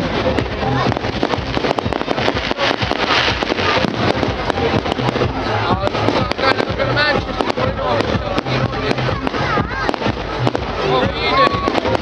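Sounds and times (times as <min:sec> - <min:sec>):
crowd voices: 0:00.0 - 0:12.0
fireworks bangs and crackling: 0:00.0 - 0:12.0.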